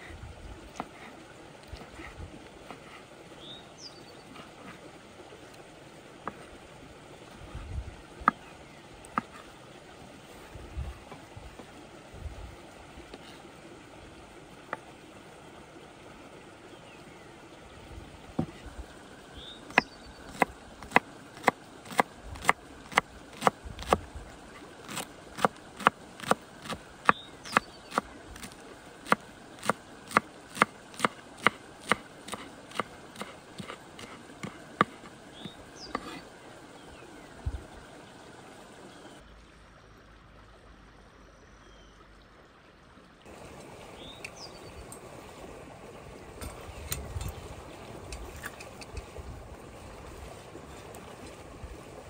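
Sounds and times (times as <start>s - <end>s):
stream running: 0.0s - 52.0s.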